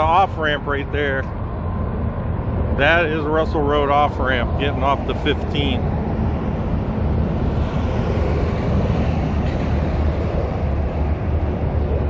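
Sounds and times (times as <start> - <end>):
road traffic passing: 0.0 - 12.0
wind rumble on microphone: 0.0 - 12.0.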